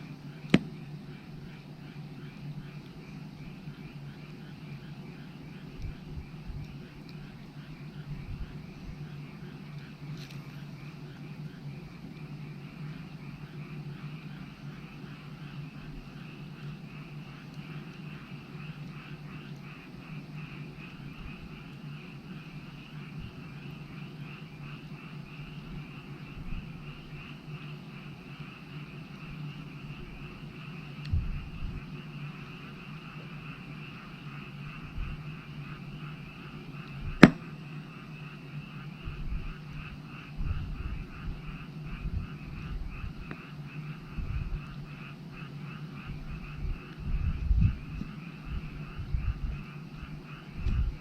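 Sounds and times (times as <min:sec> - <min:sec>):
frogs calling: 0:00.0 - 0:51.0
steady low hum: 0:00.0 - 0:51.0.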